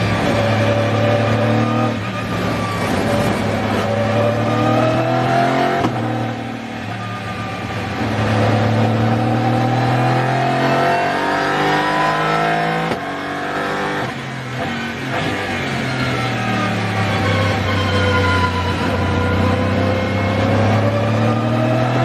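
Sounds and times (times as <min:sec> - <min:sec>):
race car engine accelerating: 0:00.0 - 0:22.0.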